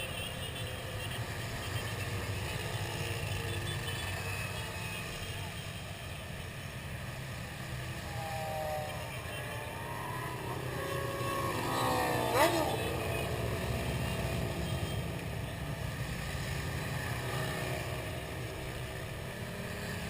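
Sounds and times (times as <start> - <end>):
motorcycle engines rumbling: 0.0 - 20.0.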